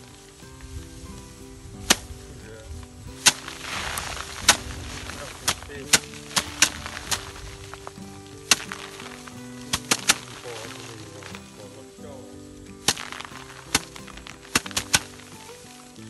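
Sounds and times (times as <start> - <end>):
grain and straw rustling: 0.0 - 16.0
rice stalks smacking on wood: 3.1 - 16.0.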